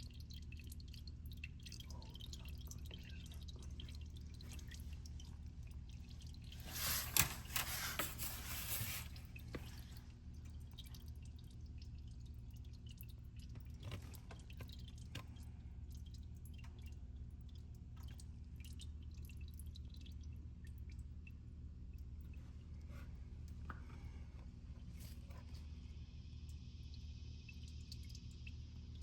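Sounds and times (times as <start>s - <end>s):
oil dripping: 0.0s - 29.0s.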